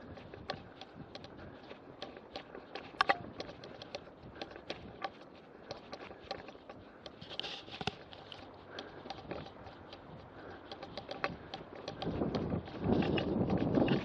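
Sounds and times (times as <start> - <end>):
bike rattling with clicks and knocks: 0.0 - 14.0.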